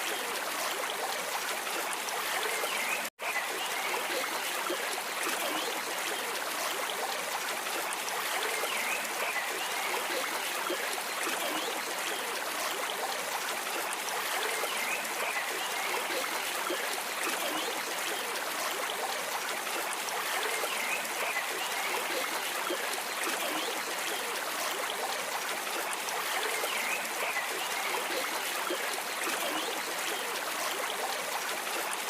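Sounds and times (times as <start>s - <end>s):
stream water babbling: 0.0s - 32.0s.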